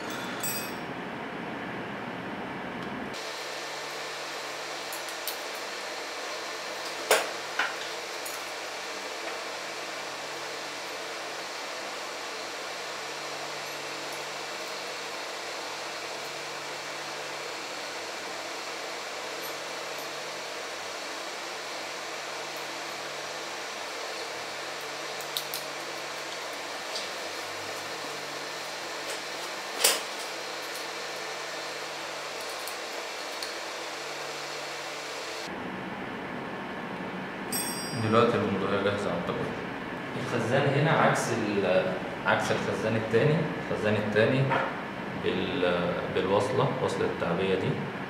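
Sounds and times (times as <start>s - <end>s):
fan hiss: 0.0s - 48.0s.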